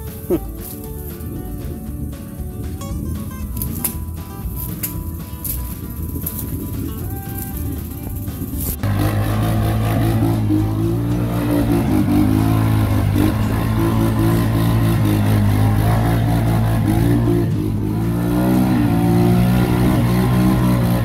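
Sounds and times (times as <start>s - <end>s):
vehicle engine running under load: 0.0s - 21.0s.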